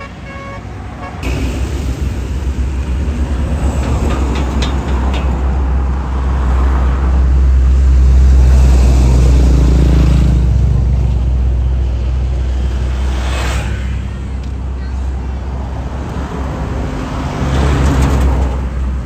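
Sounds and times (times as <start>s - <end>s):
diesel bus engine rumbling: 0.0s - 19.0s.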